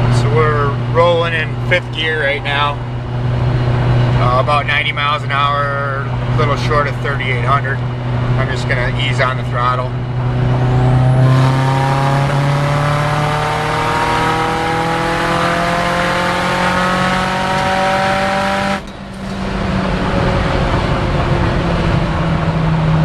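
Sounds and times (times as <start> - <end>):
turbocharged car engine accelerating: 0.0 - 23.0.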